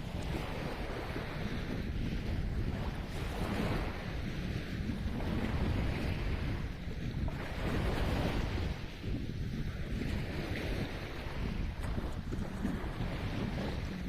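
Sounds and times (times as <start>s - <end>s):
sea waves washing ashore: 0.0s - 14.0s
wind buffeting microphone: 0.0s - 14.0s.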